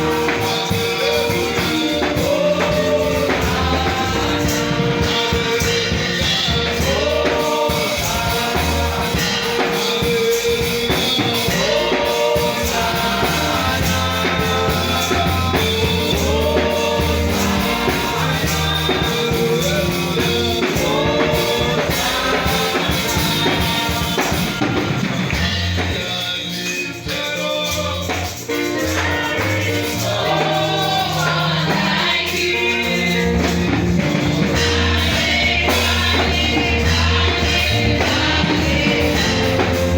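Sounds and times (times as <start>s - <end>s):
bass guitar: 0.0s - 39.9s
drums: 0.0s - 39.9s
gospel singing: 0.0s - 39.9s
tambourine: 0.0s - 39.9s.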